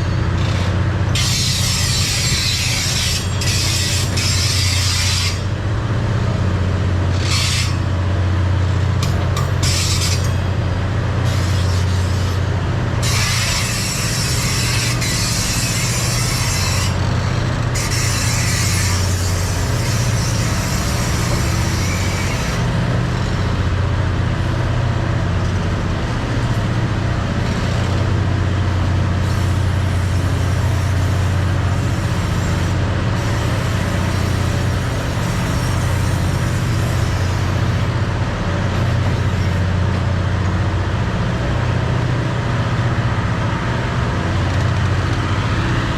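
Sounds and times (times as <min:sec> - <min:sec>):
rail and wheel noise: 0:00.0 - 0:45.9
train engine drone: 0:00.0 - 0:45.9.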